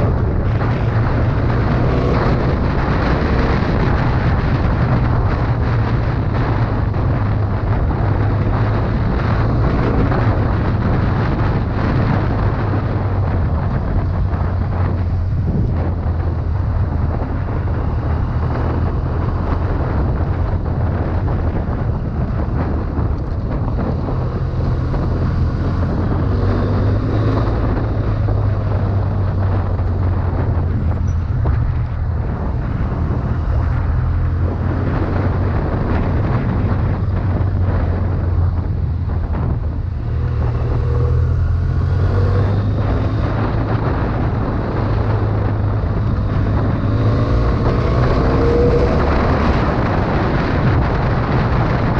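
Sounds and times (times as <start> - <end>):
motorcycle engine running: 0.0 - 51.9
road noise: 0.0 - 51.9
wind noise: 0.0 - 51.9.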